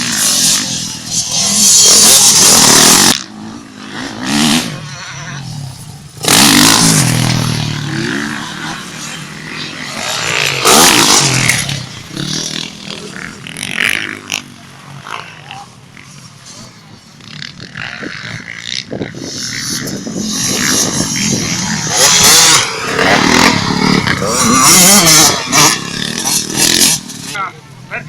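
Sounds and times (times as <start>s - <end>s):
dirt bikes revving past: 0.0s - 28.0s.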